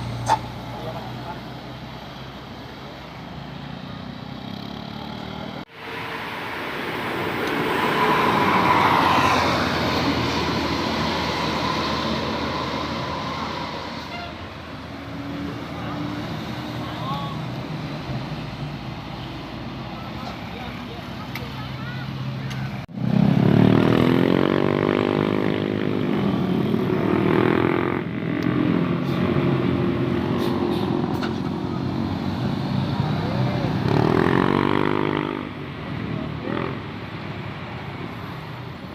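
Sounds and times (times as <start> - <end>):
bus driving past: 0.0 - 36.2.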